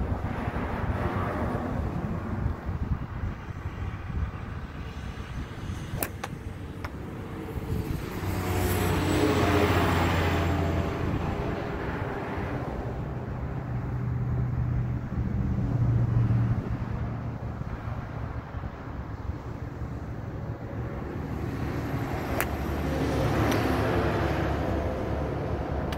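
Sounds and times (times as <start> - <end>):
passing vehicle engine: 0.0 - 25.9.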